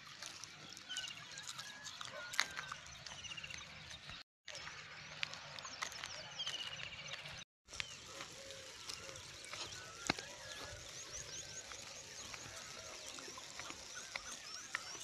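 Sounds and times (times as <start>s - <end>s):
small birds chirping and trilling: 0.1s - 15.0s.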